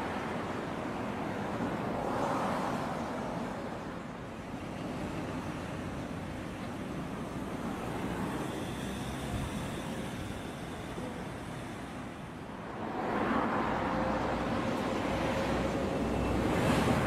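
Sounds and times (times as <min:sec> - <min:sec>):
passing vehicles rushing: 0:00.0 - 0:17.0.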